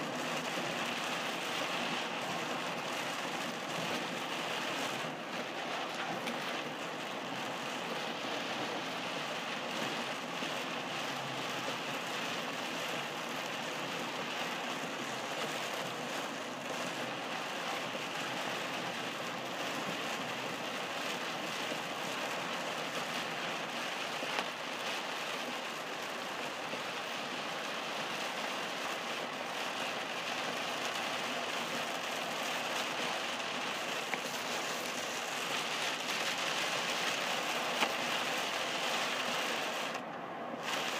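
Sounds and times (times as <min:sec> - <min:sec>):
heavy rain on car roof: 0:00.0 - 0:40.9
tyre road noise on wet pavement: 0:00.0 - 0:40.9.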